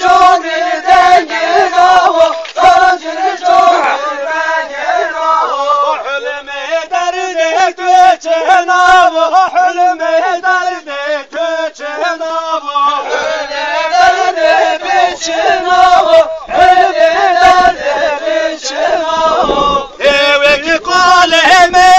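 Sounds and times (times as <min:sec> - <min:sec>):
group of voices chanting and singing: 0:00.0 - 0:21.9.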